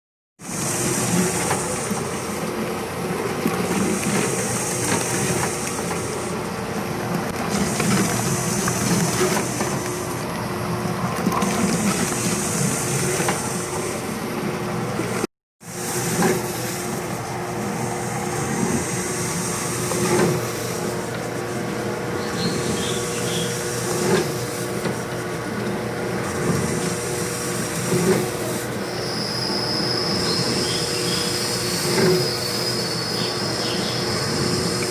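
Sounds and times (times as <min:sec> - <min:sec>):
machine motor churning: 0:00.4 - 0:34.9.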